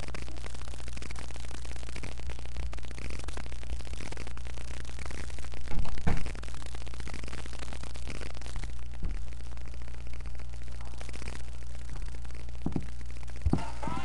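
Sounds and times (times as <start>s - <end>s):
low electrical hum: 0.0s - 14.0s
microphone hiss: 0.0s - 14.0s.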